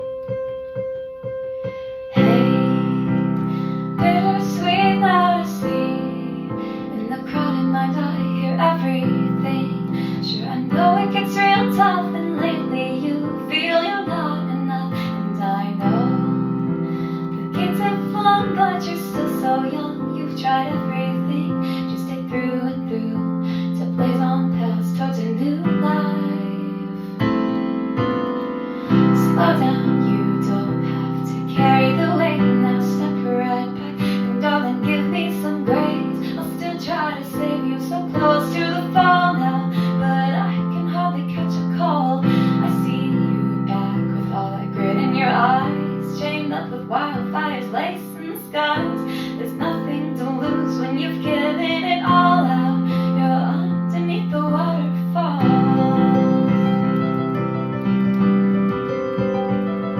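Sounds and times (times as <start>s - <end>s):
keyboard chords: 0.0s - 59.9s
woman singing: 2.0s - 28.0s, 28.8s - 57.9s.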